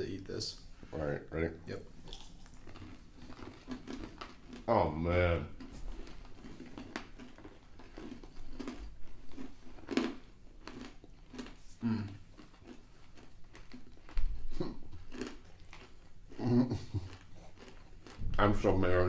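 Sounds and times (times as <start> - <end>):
crunchy chewing: 1.9 - 19.0.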